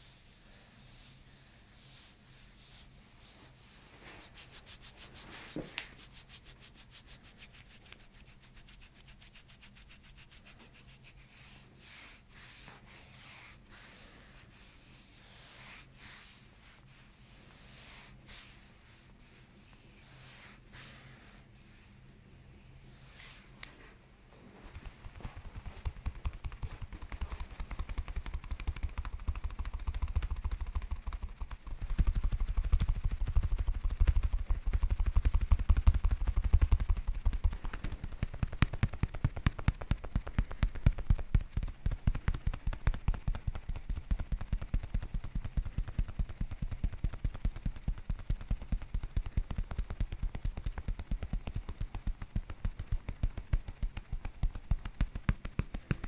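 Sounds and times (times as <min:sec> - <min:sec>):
hands massaging skin: 0:00.4 - 0:21.8, 0:24.6 - 0:56.0.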